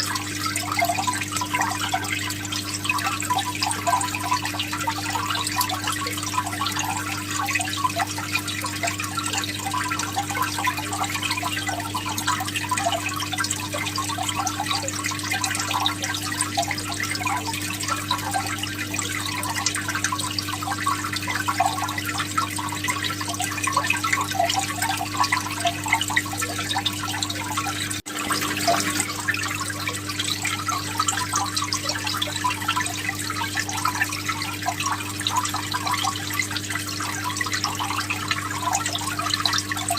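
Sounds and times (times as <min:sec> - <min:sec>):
pump electric hum: 0:00.0 - 0:39.9
water splashing and trickling: 0:00.0 - 0:39.9.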